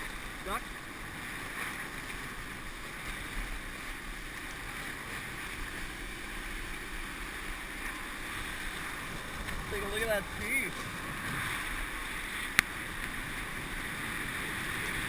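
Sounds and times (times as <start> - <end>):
water ski hissing over water: 0.0 - 15.0.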